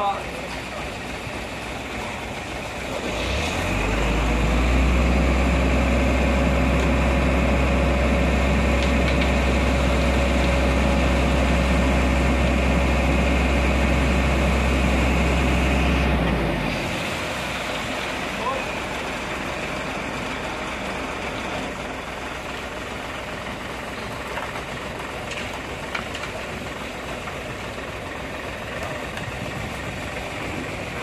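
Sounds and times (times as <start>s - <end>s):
diesel truck engine revving: 0.6s - 31.0s.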